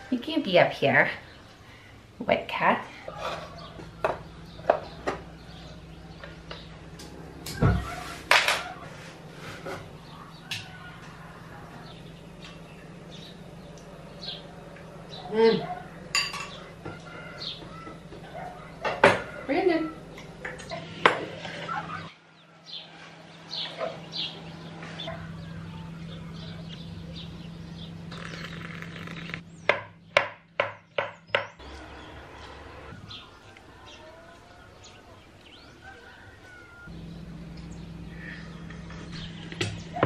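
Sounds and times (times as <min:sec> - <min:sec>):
birds chirping: 0:00.0 - 0:40.0
low steady hum: 0:00.0 - 0:40.0.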